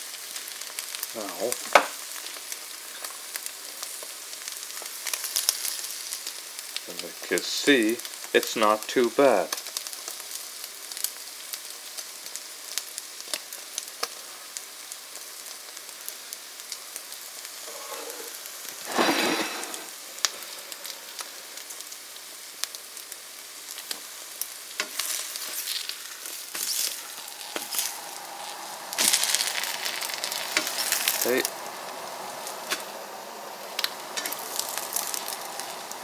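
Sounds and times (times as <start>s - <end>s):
bread and eggs sizzling in a pan: 0.0s - 36.0s.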